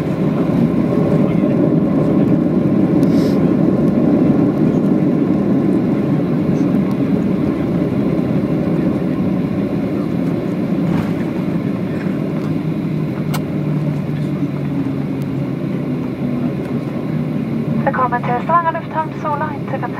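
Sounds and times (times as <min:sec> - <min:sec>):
jet engines and wheels rumbling: 0:00.0 - 0:19.9.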